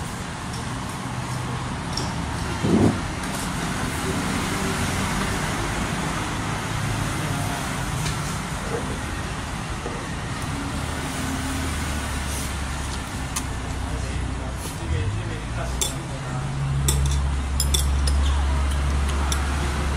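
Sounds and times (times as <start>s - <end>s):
street traffic noise: 0.0s - 19.9s.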